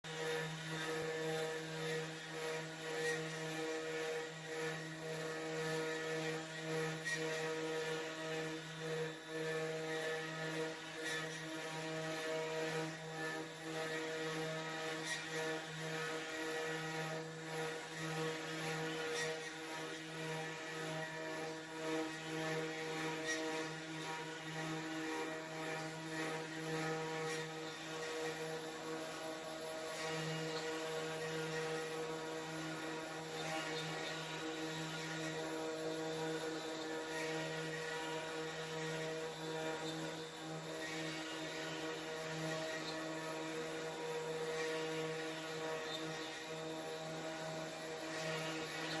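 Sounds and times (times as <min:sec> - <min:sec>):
router spindle whining carving wood: 0:00.1 - 0:49.0.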